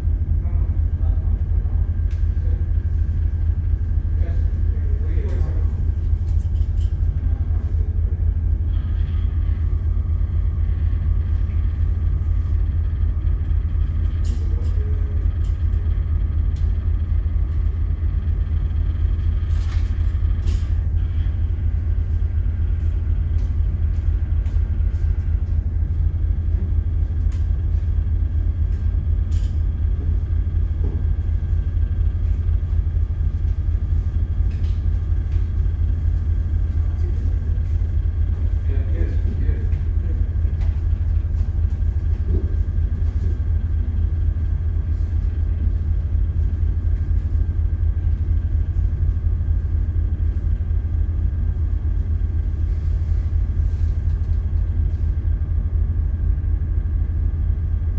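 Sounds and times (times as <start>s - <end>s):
ship engine rumble: 0.0s - 57.9s.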